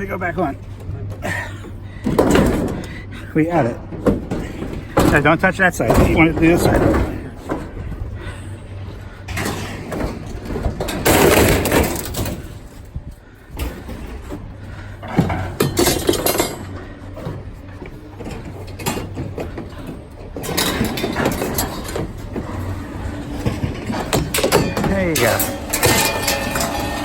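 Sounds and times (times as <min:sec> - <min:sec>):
steady low hum: 0:00.0 - 0:27.0
scrap metal clanking and scraping: 0:00.5 - 0:27.0.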